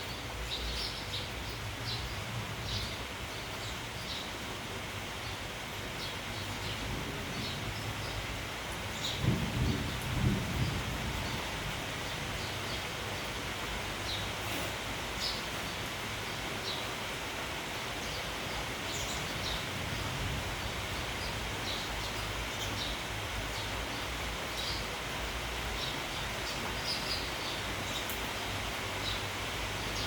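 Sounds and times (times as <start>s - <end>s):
sparrows chirping: 0.0s - 4.5s, 5.2s - 10.0s, 10.6s - 30.0s
rain and wind hiss: 0.0s - 30.0s.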